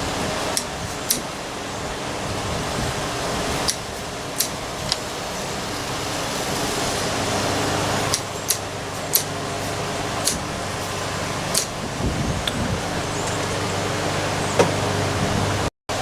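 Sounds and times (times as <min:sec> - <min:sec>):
steady whirring fan: 0:00.0 - 0:16.0.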